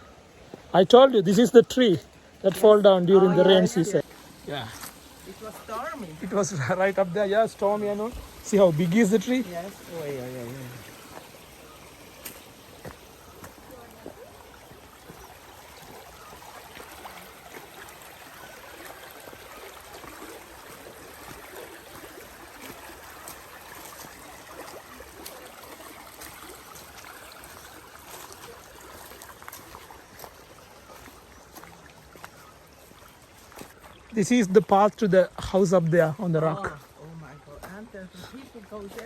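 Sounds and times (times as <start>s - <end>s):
stream running: 0.0s - 39.0s.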